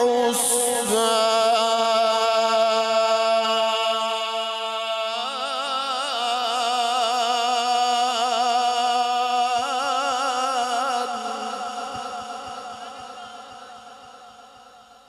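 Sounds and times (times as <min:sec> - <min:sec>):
man reciting melodically: 0:00.0 - 0:14.9.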